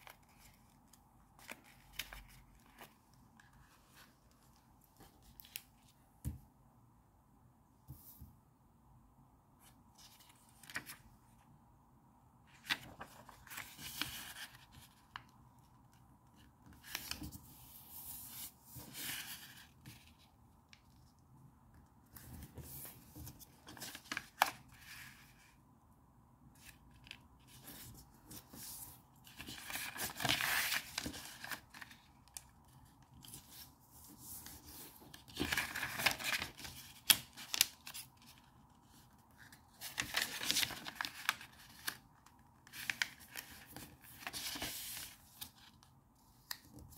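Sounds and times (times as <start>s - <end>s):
paper rustling and creasing: 0.0s - 6.0s, 9.6s - 11.4s, 12.5s - 21.0s, 22.1s - 25.5s, 26.6s - 46.9s.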